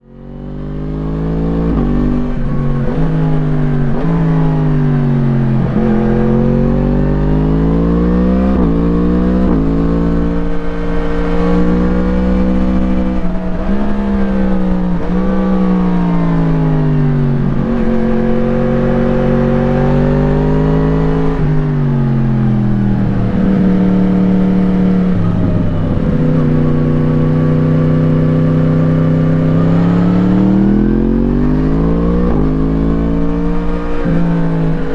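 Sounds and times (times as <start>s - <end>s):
low wind rumble: 0.0s - 34.9s
motorcycle engine revving: 0.0s - 34.9s.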